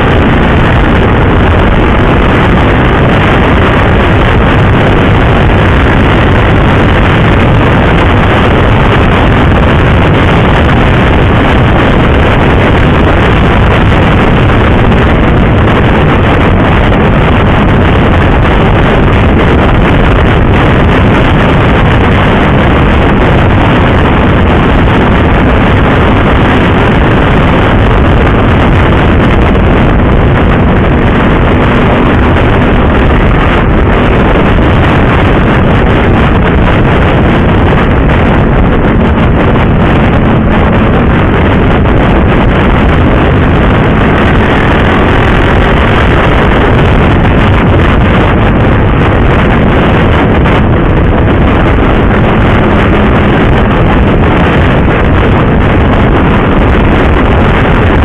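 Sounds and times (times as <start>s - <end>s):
motorcycle engine drone: 0.0s - 58.0s
wind rushing over microphone: 0.0s - 58.0s.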